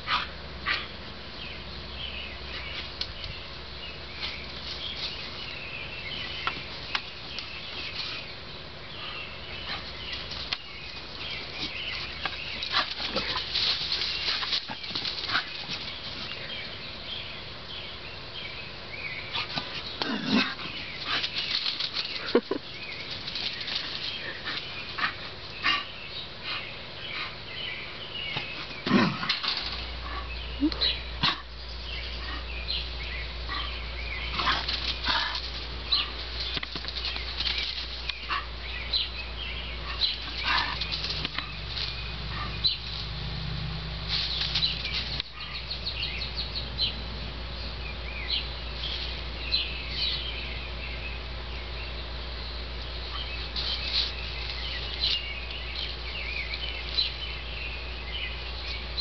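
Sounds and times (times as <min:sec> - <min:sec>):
animals rustling through grass: 0:00.0 - 0:59.0.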